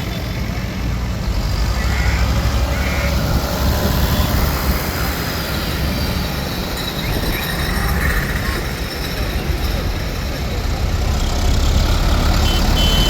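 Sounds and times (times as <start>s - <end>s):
tractor engines rumbling: 0.0s - 13.0s.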